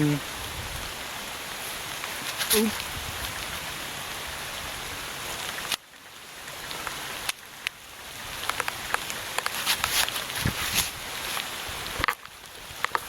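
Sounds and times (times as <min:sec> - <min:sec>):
rain on vegetation: 0:00.0 - 0:13.0.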